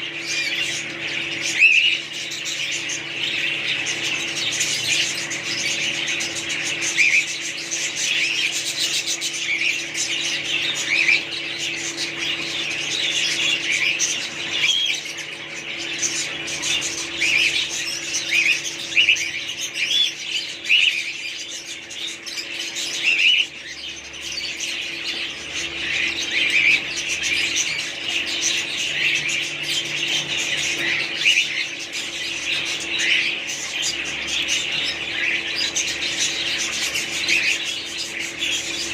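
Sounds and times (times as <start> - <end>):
birds chirping and squawking: 0.0 - 38.9
steady low hum: 0.0 - 38.9.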